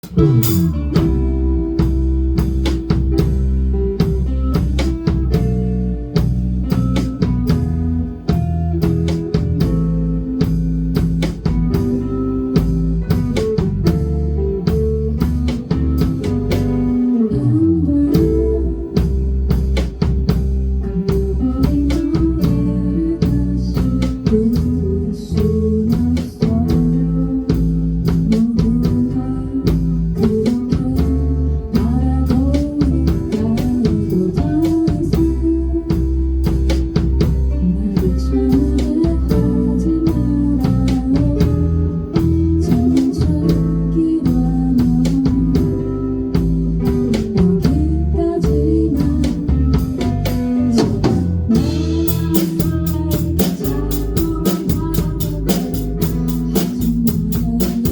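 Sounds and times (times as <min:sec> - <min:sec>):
drum kit steady beat: 0:00.0 - 0:17.2, 0:18.1 - 0:57.9
band playing guitar music: 0:00.0 - 0:57.9.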